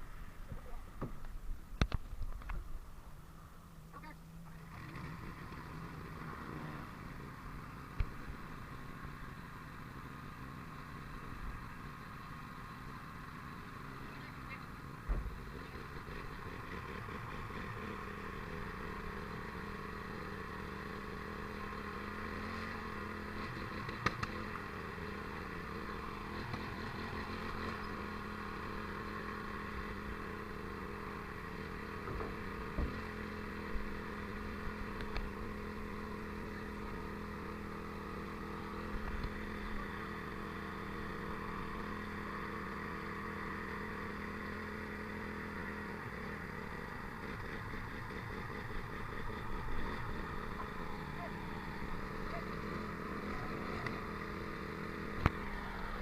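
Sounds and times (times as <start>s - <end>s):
road noise hum: 0.0s - 56.0s
vehicle engine running: 0.0s - 56.0s.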